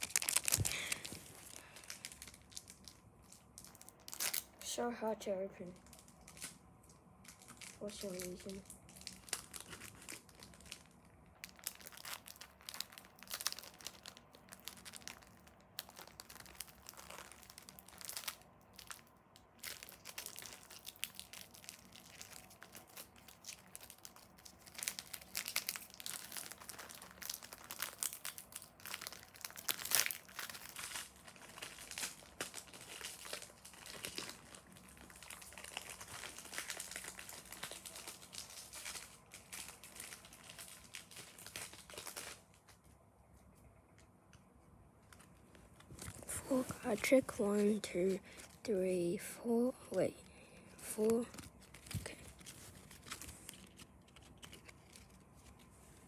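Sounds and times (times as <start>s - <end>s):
foil wrapper crinkling and tearing: 0.0s - 43.0s, 45.1s - 49.7s, 50.3s - 55.7s.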